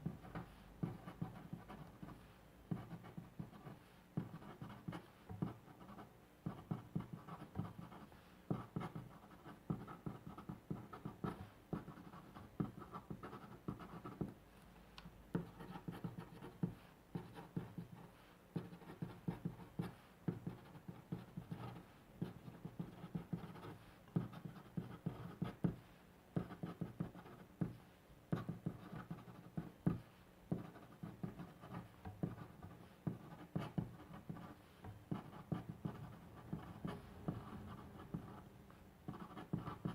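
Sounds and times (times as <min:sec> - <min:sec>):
pen scratching on paper: 0:00.0 - 0:14.4, 0:15.3 - 0:25.8, 0:26.4 - 0:27.7, 0:28.3 - 0:38.5, 0:39.1 - 0:39.9.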